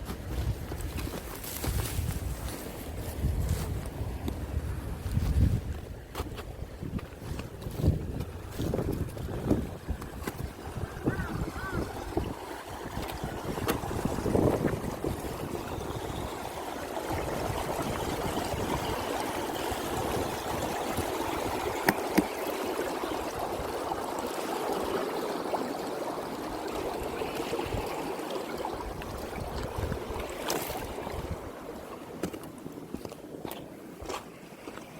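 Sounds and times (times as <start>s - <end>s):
rushing stream water: 0.0s - 34.9s.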